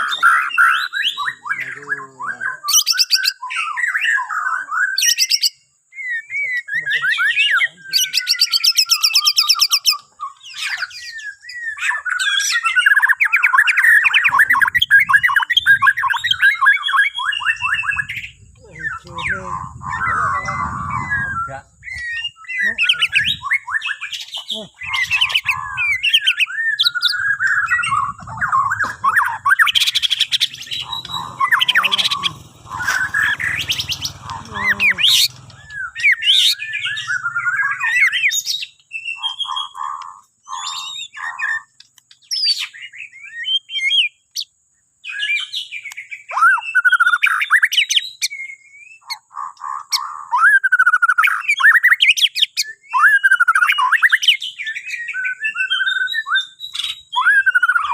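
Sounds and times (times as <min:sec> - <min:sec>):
bird singing whistled phrases: 0:00.0 - 0:39.8, 0:40.5 - 0:44.4, 0:45.0 - 0:49.2, 0:50.3 - 0:57.9.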